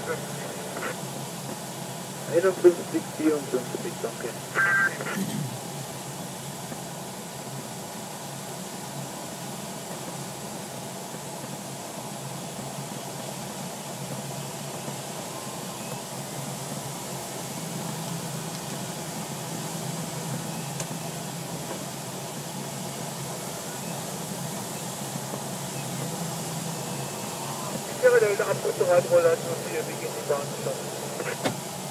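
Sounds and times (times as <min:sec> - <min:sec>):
airflow rushing around glider cockpit: 0:00.0 - 0:31.9.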